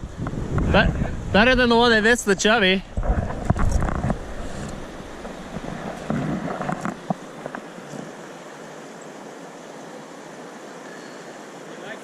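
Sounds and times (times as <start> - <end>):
river water rushing: 1.9 - 12.0.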